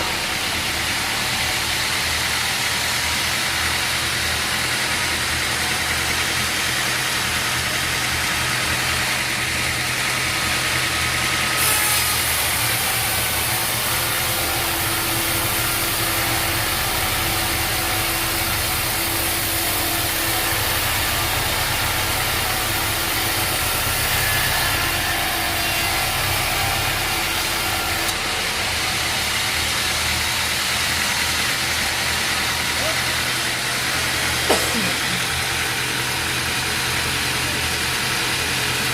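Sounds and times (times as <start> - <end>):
machinery engine running: 0.0 - 38.9.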